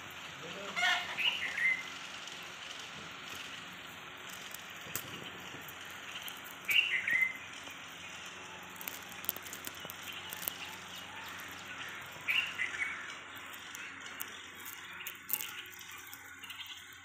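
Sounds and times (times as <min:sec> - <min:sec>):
bird chirping: 0:00.0 - 0:17.0
steady background hiss: 0:00.0 - 0:17.0.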